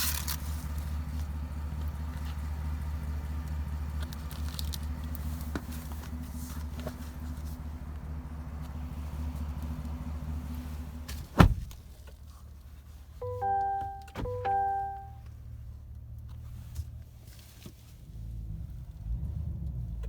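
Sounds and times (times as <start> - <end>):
pickup truck engine rumbling: 0.0 - 20.0.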